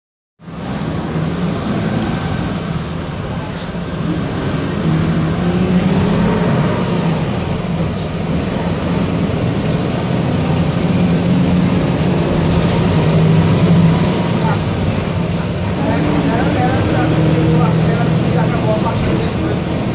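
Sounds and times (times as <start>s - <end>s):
bus diesel engine running: 0.4s - 19.9s.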